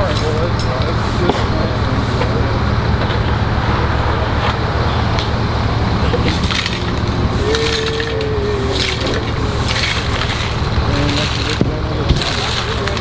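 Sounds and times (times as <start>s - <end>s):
road noise: 0.0s - 13.0s
vehicle engine idling: 0.0s - 13.0s.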